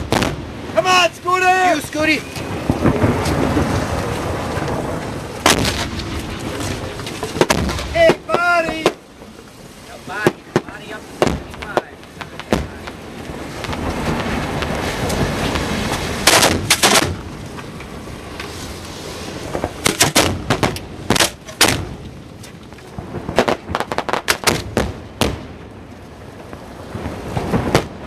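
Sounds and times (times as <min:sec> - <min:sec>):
fireworks bangs: 0:00.0 - 0:28.0
fireworks rumbling: 0:00.0 - 0:28.0.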